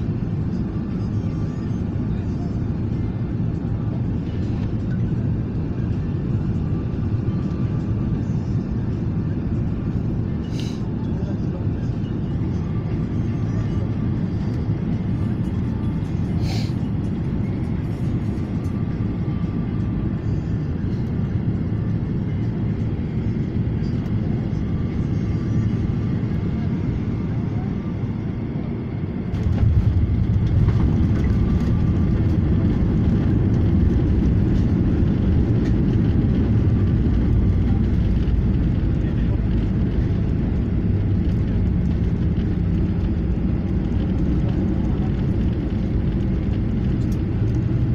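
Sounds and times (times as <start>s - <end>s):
jet airliner cabin rumble: 0.0s - 47.9s
plane touching down rumble: 0.0s - 47.9s.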